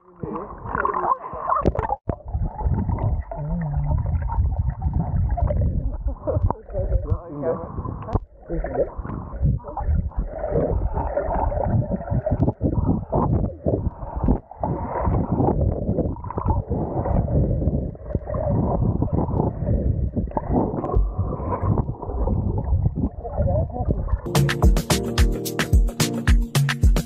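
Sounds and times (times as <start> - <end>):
muffled underwater sloshing: 0.0 - 24.3.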